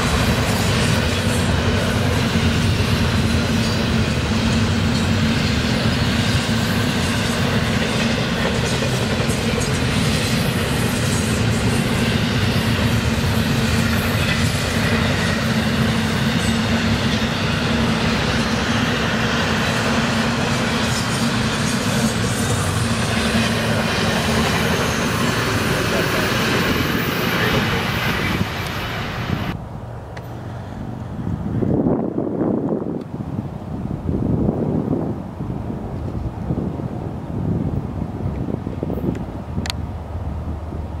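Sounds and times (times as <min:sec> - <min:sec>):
freight train wheels on rails: 0:00.0 - 0:41.0.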